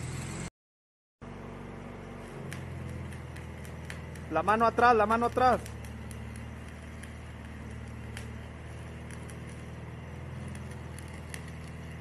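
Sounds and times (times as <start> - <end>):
welding arc crackling hiss: 1.6 - 12.0
welding spatter pops: 2.0 - 12.0.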